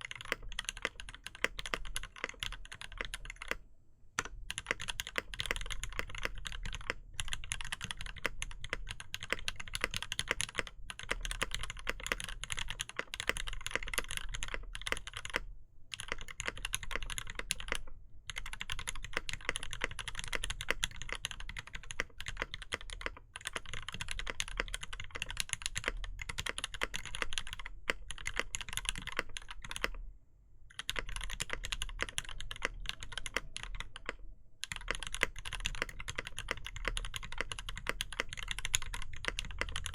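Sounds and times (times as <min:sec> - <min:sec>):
fast typing on mechanical keyboard: 0:00.0 - 0:03.6, 0:04.2 - 0:30.0, 0:30.7 - 0:39.9.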